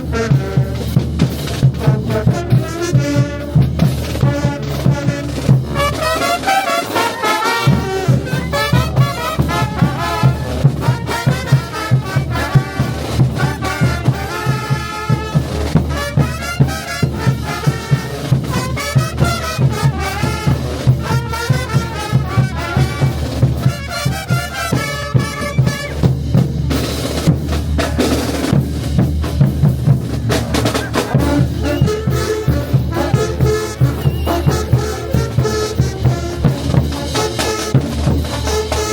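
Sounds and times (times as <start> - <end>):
bass drum and snare drum beat: 0.0 - 38.9
trumpets and trombones melody: 0.0 - 38.9.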